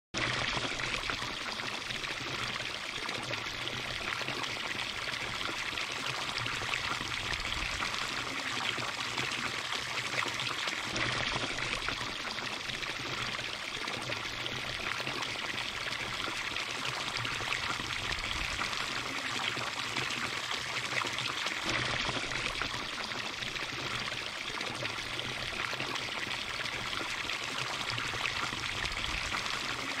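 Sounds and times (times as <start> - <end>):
water pouring into a trough: 0.2 - 30.0.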